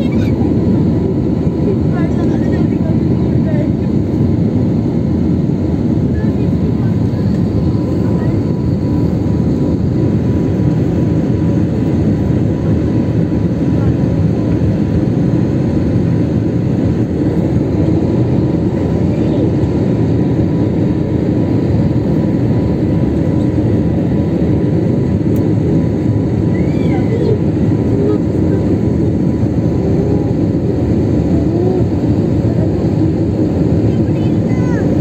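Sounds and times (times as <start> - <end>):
jet airliner cabin noise: 0.0 - 35.0.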